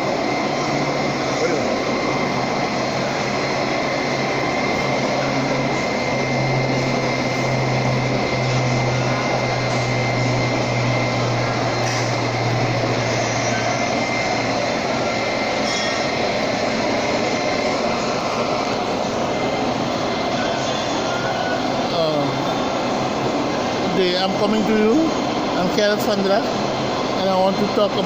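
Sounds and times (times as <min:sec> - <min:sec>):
low hum: 0:00.0 - 0:25.6
high whine: 0:00.0 - 0:28.0.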